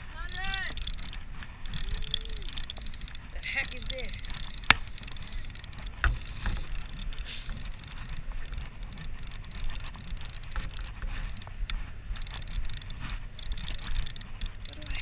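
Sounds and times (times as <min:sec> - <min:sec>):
fishing reel clicking: 0:00.1 - 0:15.0.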